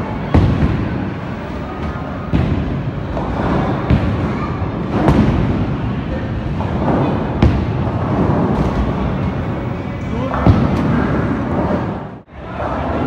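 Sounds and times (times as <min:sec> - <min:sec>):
bowling balls rolling: 0:00.0 - 0:13.0.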